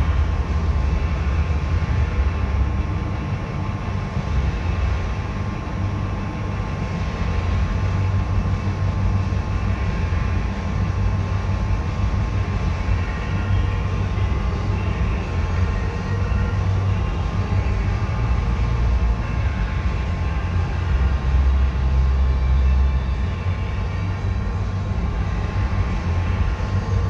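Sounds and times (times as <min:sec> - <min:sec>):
ventilation fans rumbling: 0:00.0 - 0:27.0.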